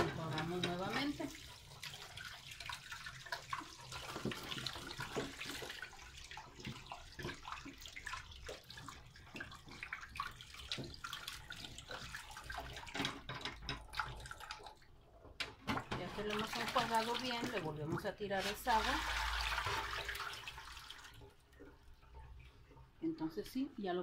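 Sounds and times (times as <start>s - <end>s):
tap water running into pot: 0.0s - 23.0s.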